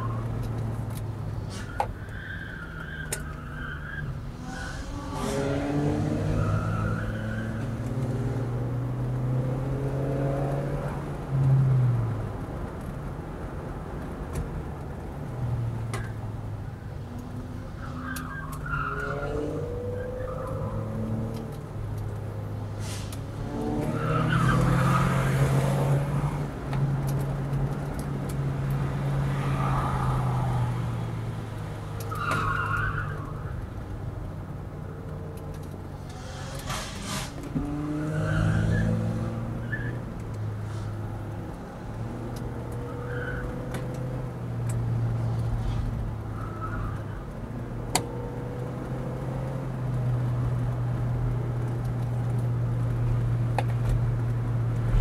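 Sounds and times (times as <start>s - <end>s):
car engine drone: 0.0s - 55.0s
road noise: 0.0s - 55.0s.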